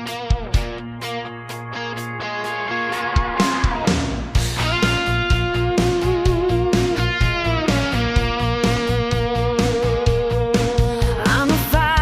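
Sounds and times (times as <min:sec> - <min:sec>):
steady beat: 0:00.0 - 0:12.0
sustained electric guitar: 0:00.0 - 0:12.0.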